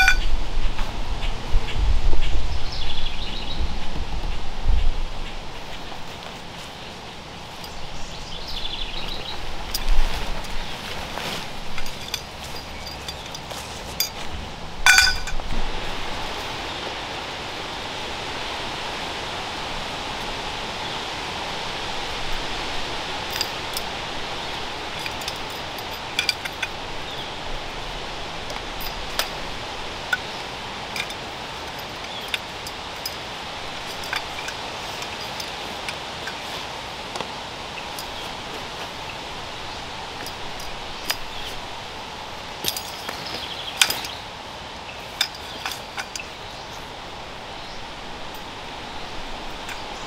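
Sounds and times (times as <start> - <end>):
tent poles clinking: 0.0 - 0.9, 5.5 - 16.8, 19.6 - 50.0
steady outdoor hiss: 0.0 - 50.0.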